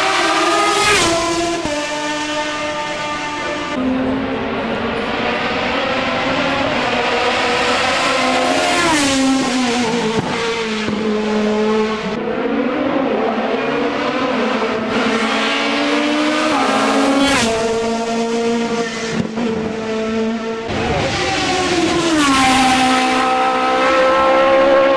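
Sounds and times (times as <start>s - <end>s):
racing car engine shifting gears: 0.0s - 24.9s.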